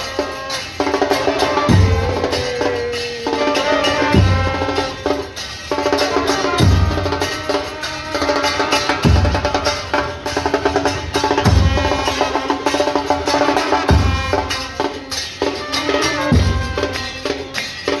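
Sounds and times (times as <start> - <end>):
music with rapid percussion: 0.0 - 18.0.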